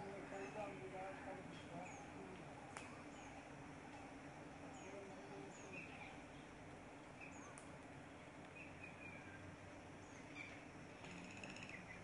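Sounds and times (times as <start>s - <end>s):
faint bird chirps: 0.0s - 0.9s, 1.5s - 12.0s.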